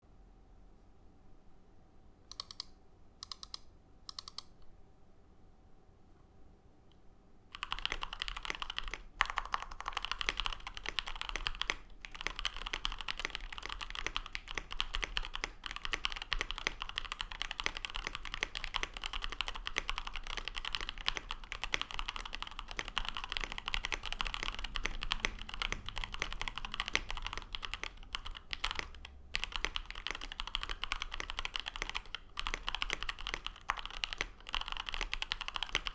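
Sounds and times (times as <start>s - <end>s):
typing on mechanical keyboard: 2.3s - 4.5s, 7.5s - 35.9s.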